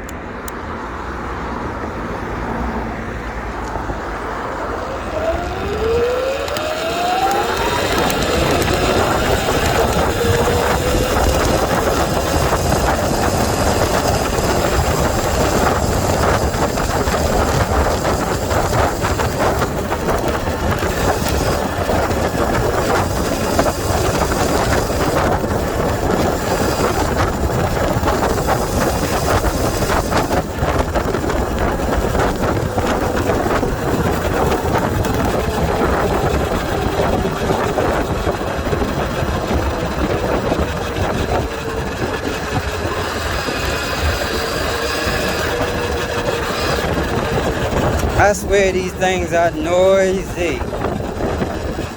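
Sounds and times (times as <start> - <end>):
wind buffeting microphone: 0.0 - 51.9
electric motor whine: 4.4 - 51.9.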